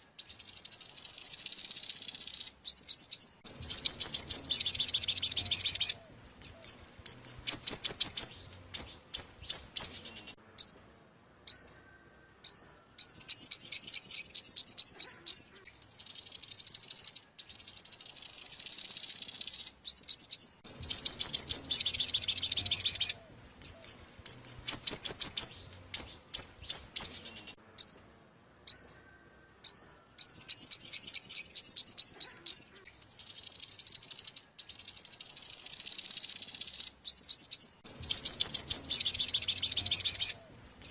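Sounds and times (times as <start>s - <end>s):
bird song chirps and trills: 0.0s - 40.9s.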